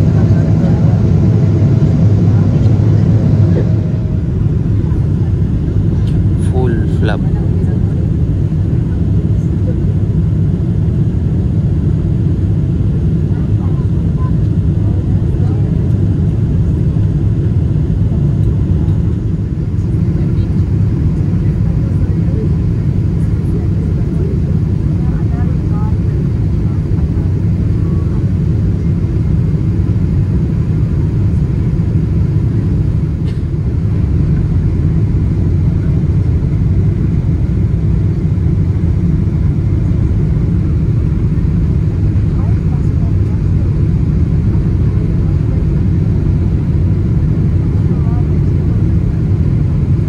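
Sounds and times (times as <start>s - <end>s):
airliner cabin engine rumble: 0.0s - 50.0s.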